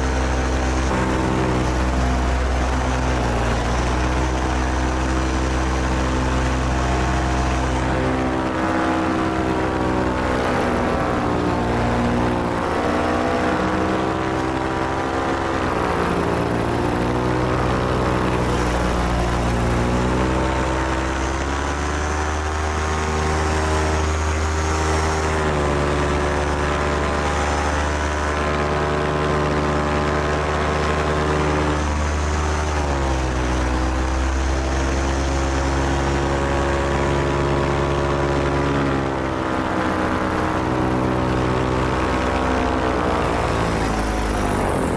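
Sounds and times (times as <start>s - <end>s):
paramotor engine and propeller: 0.0s - 44.9s.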